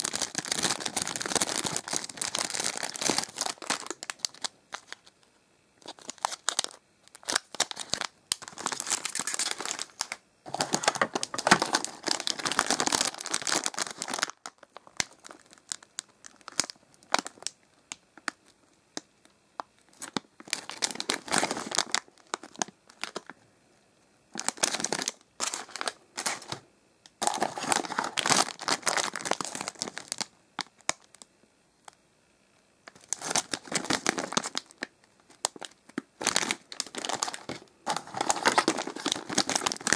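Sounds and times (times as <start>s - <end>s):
snack wrappers crinkling: 0.0s - 5.2s, 5.8s - 19.1s, 19.7s - 23.4s, 24.4s - 31.2s, 32.9s - 39.9s.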